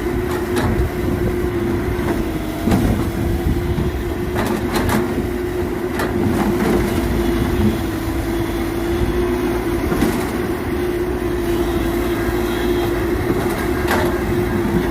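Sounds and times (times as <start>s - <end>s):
constant hum: 0.0s - 14.9s
heavy vehicle engine rumbling: 0.0s - 14.9s.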